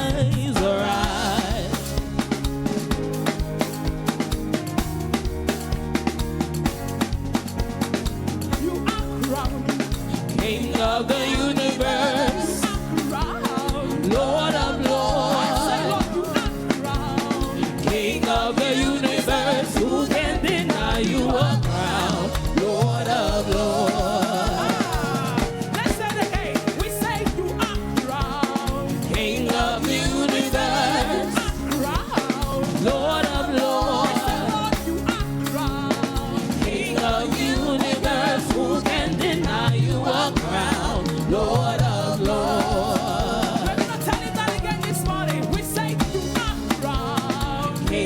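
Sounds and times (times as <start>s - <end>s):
voices singing: 0.0s - 5.8s, 8.2s - 48.0s
church band playing a beat: 0.0s - 48.0s.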